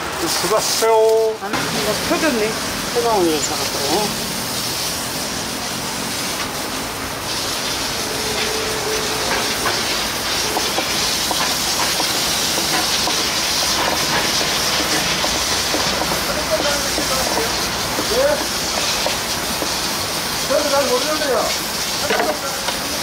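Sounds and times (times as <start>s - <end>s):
food sizzling hiss: 0.0s - 23.0s.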